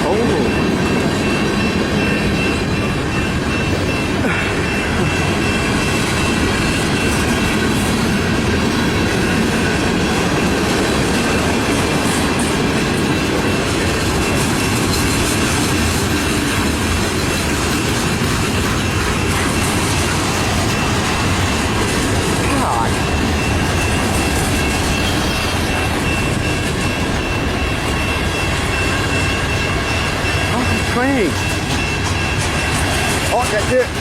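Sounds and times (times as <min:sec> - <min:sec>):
freight train wheels clattering: 0:00.0 - 0:34.0.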